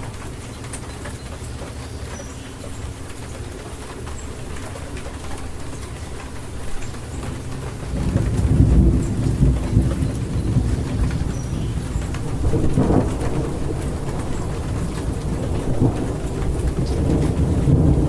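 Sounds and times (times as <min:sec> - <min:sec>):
rain falling: 0:00.0 - 0:18.0
thunder rumbling: 0:02.8 - 0:18.0.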